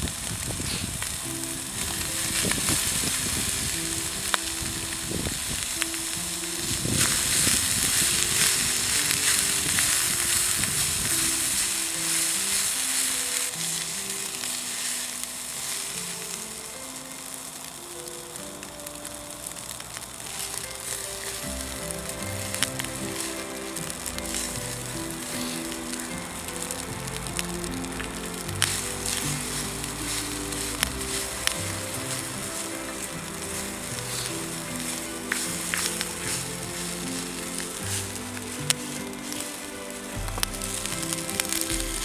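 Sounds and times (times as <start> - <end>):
rice sizzling in a wok: 0.0 - 42.0
soft melody of short notes: 0.0 - 42.0.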